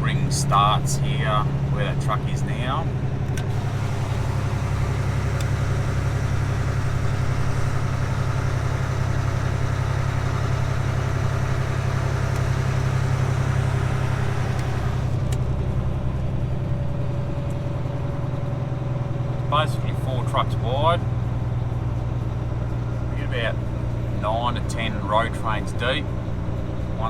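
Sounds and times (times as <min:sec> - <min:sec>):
diesel truck engine droning: 0:00.0 - 0:27.0
road noise: 0:00.0 - 0:27.0.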